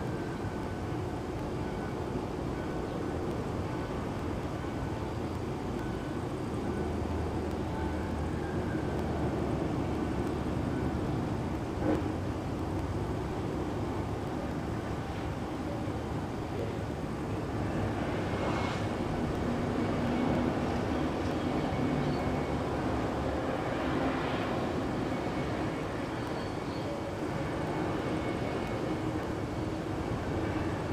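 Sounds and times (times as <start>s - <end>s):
distant electric train rumbling: 0.0s - 30.9s
faint hum: 0.0s - 30.9s.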